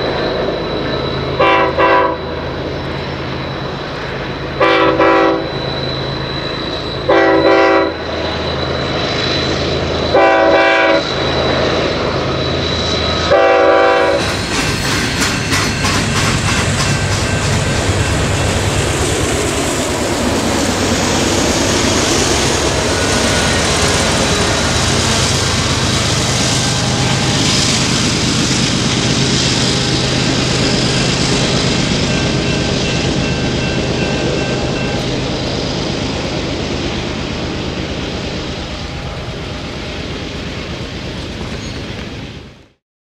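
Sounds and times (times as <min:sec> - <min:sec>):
diesel locomotives passing: 0:00.0 - 0:42.8
train wheels rumbling and clattering: 0:00.0 - 0:42.8.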